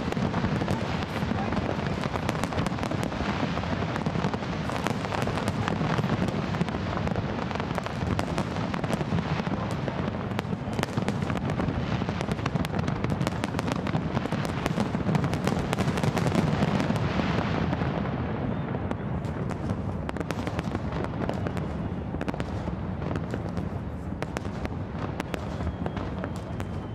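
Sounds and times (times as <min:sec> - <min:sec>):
fireworks crackling and banging: 0:00.0 - 0:26.9.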